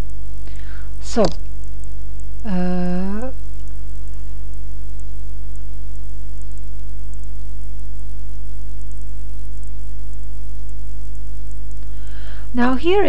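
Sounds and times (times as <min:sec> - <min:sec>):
faint hiss with crackle: 0:00.0 - 0:13.0
low electrical hum: 0:00.0 - 0:13.0.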